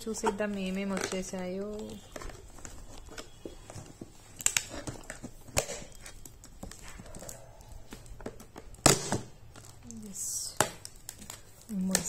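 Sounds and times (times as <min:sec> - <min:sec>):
plastic crinkling: 0:00.0 - 0:12.0.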